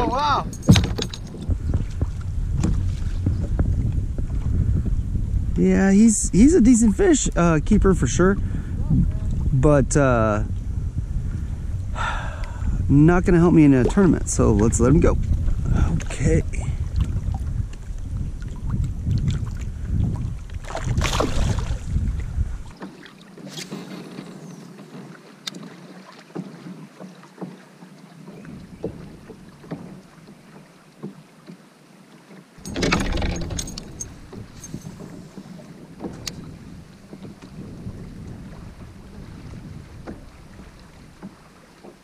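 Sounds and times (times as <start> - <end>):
water splashing against a kayak: 0.0 - 5.6, 10.4 - 42.0
wind rumbling on microphone: 0.0 - 22.8, 28.3 - 30.2, 32.6 - 42.0.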